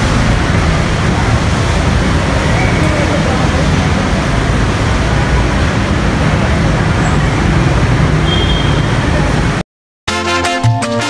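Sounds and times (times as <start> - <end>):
traffic jam rumble: 0.0 - 9.6.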